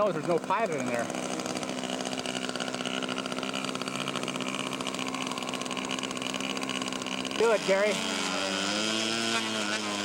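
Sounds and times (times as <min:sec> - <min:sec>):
model airplane engine running: 0:00.0 - 0:10.0.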